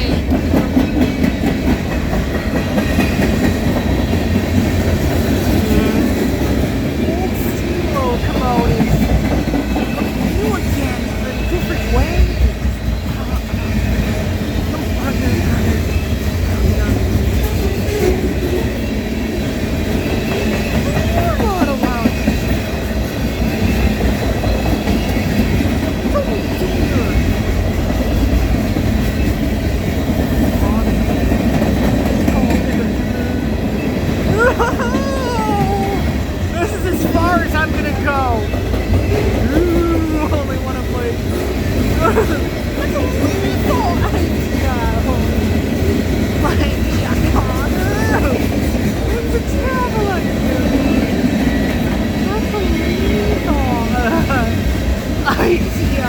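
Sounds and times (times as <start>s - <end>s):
freight train rolling past: 0.0s - 56.0s
steel wheels running on rails: 0.0s - 56.0s.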